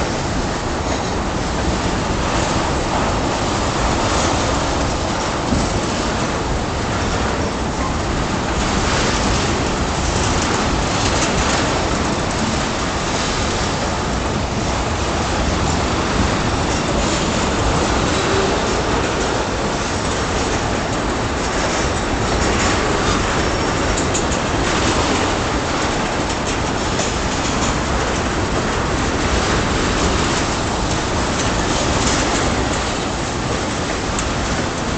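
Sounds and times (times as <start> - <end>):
clacking over rail joints: 0.0 - 34.9
train wheels rumbling on rails: 0.0 - 34.9.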